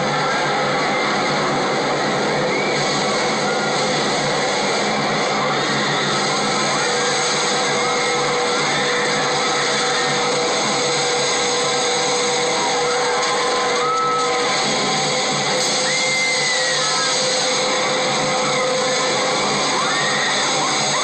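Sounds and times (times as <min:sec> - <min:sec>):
music: 0:00.0 - 0:21.0.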